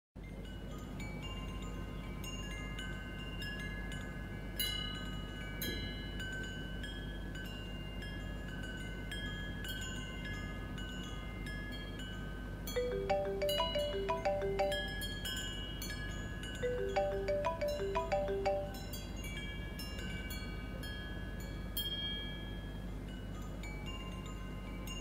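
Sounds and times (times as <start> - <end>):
wind chimes ringing: 0.2 - 25.0.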